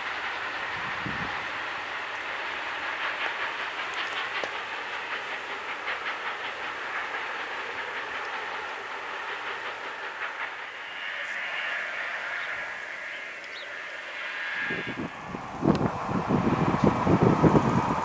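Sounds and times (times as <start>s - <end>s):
high steady squeal: 0.0s - 18.0s
train wheels clicking on rails: 0.0s - 18.0s.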